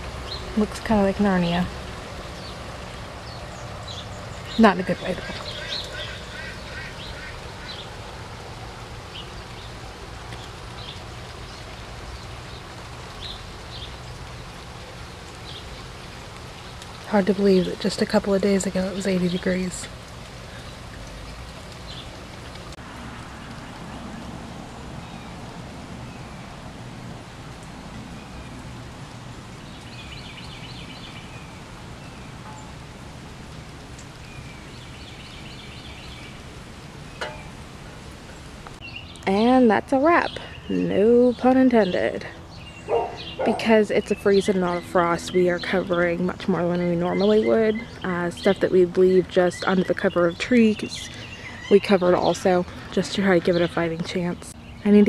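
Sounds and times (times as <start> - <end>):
wind and falling snow in trees: 0.0 - 55.0.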